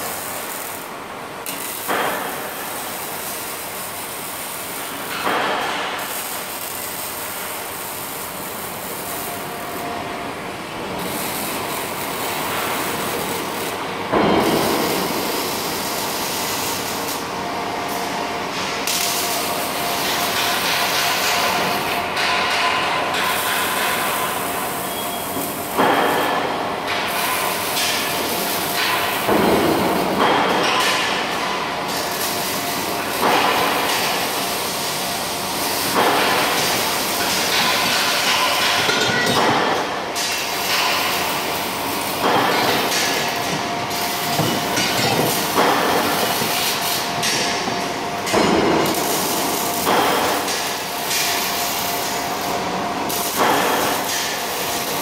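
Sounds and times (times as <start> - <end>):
arc welder welding: 0.0 - 55.0
steady factory hum: 0.0 - 55.0.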